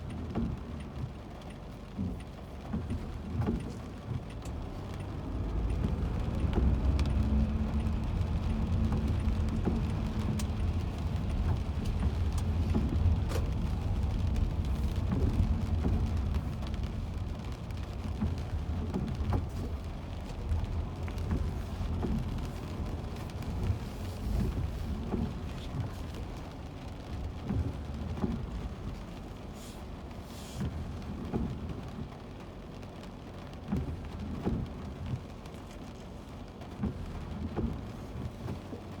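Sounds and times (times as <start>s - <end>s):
tyres and rain rumble: 0.0s - 39.0s.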